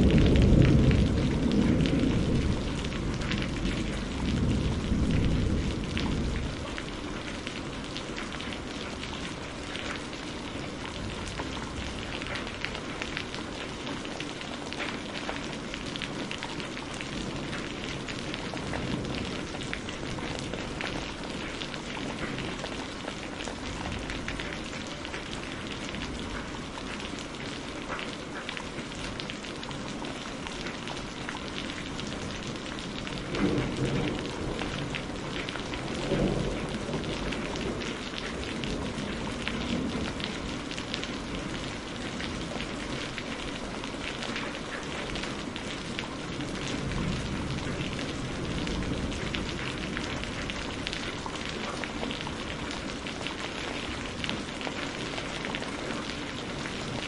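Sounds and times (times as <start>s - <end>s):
thunder rumbles: 0.0s - 27.4s, 30.0s - 57.0s
steady rain falling: 0.0s - 57.0s.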